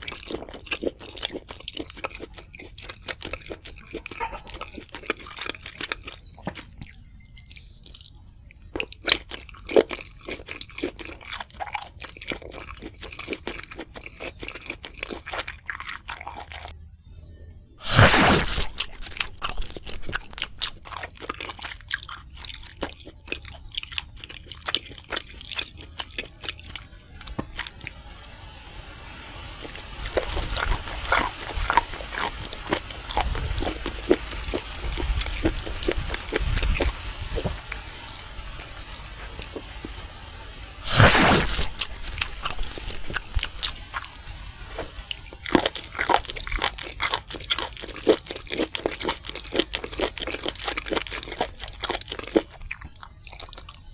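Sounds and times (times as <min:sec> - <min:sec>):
crunching fried food: 0:00.0 - 0:16.8, 0:17.8 - 0:53.9.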